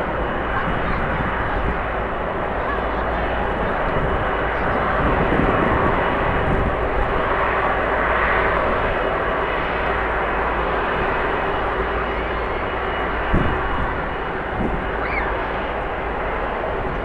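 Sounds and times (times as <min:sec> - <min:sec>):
wind on microphone: 0:00.0 - 0:09.8, 0:10.8 - 0:17.0
jet engines running: 0:00.0 - 0:17.0.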